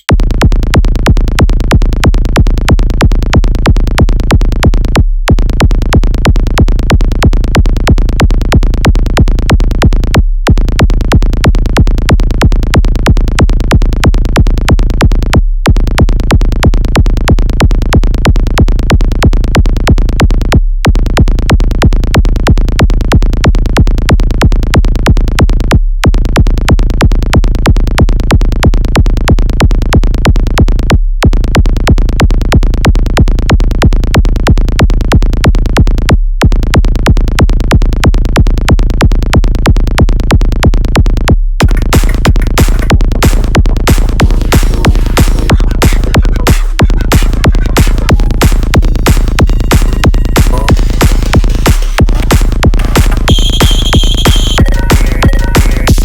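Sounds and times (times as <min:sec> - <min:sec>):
electronic music with heavy bass: 0:00.0 - 0:56.0.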